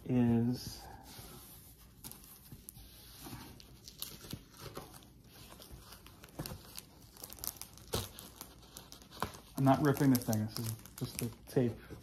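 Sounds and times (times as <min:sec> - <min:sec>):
paper crinkling: 0:01.7 - 0:12.0.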